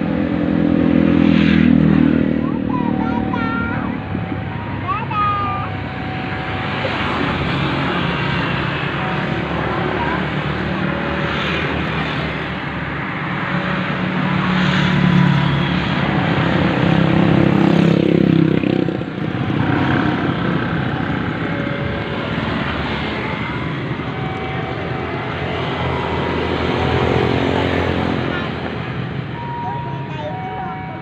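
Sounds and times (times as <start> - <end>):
diesel locomotive engine drone: 0.0 - 31.0
train rumble: 1.6 - 31.0.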